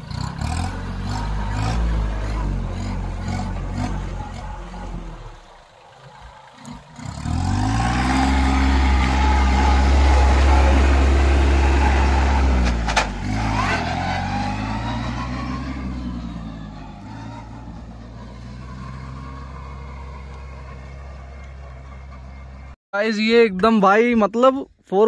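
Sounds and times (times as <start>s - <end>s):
tractor diesel engine passing: 0.0s - 22.8s.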